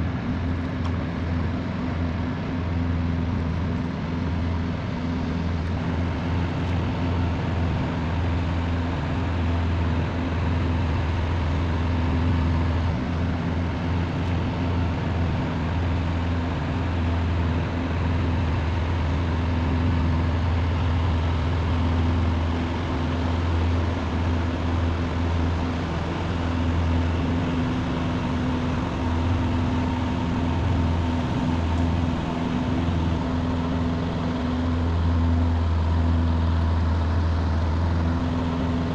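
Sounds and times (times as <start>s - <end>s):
boat engines droning: 0.0s - 38.9s.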